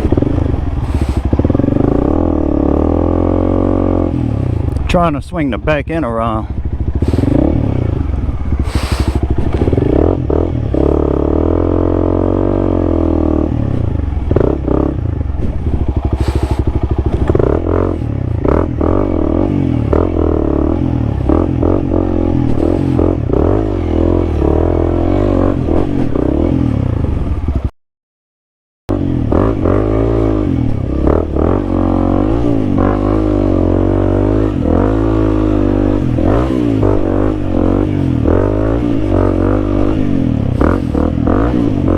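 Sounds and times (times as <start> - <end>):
motorcycle engine revving: 0.0 - 27.7, 28.9 - 41.9.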